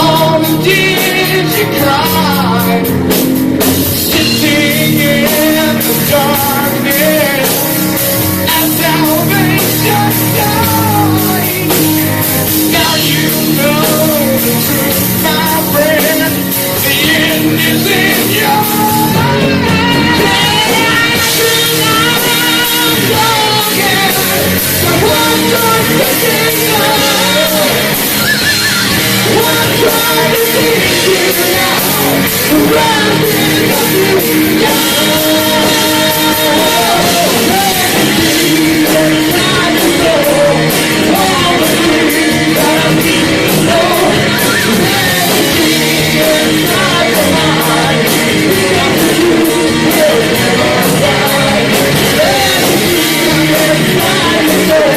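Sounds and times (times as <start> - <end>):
heavy metal band playing: 0.0 - 54.9
vocalist singing and yelling: 0.0 - 54.9.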